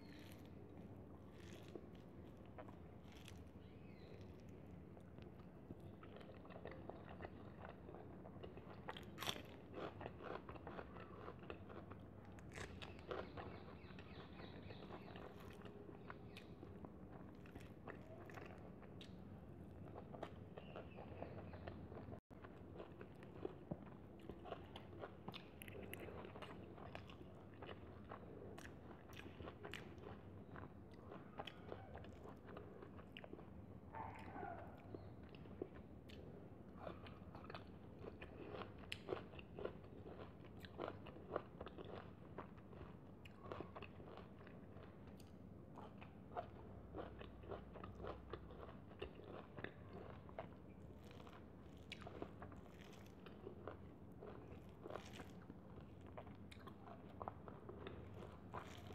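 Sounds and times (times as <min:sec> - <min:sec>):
chewing and crunching: 0:00.0 - 0:58.9.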